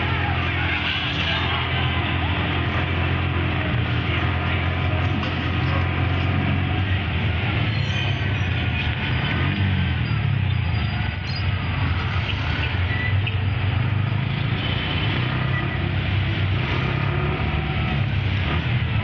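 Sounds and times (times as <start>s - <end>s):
surrounding traffic noise: 0.0s - 19.0s
vehicle engine droning: 0.0s - 19.0s.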